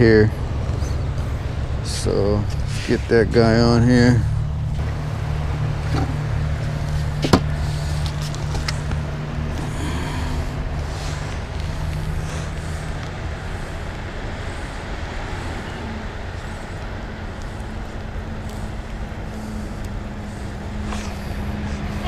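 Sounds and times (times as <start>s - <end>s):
engine rumbling: 0.0s - 22.0s
rising hum: 0.0s - 22.0s.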